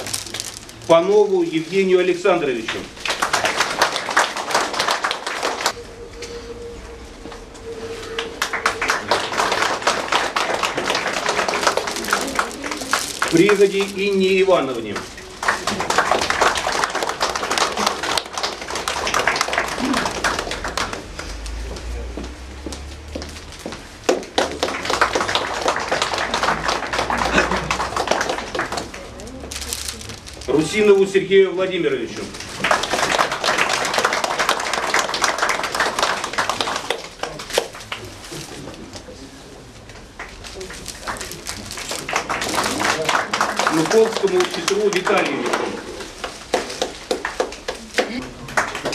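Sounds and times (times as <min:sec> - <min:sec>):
audience applauding: 0:00.0 - 0:05.8, 0:07.8 - 0:21.8, 0:24.0 - 0:29.3, 0:32.3 - 0:38.5, 0:40.1 - 0:48.9.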